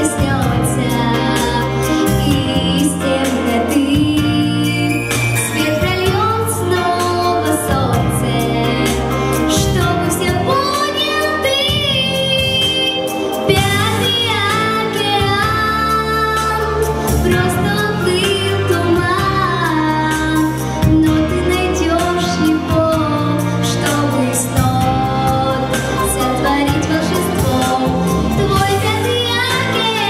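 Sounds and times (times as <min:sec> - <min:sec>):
girl singing into microphone: 0:00.0 - 0:30.0
instrumental accompaniment with beat: 0:00.0 - 0:30.0.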